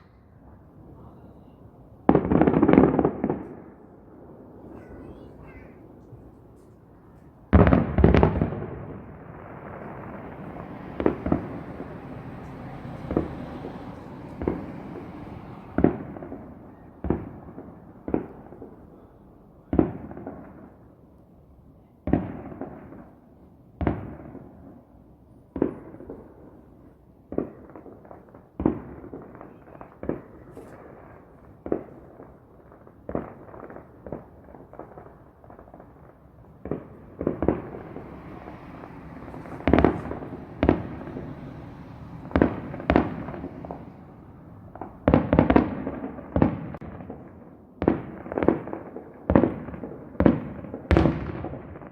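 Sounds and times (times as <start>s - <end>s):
fireworks bursting: 0.0s - 19.0s, 25.5s - 51.9s.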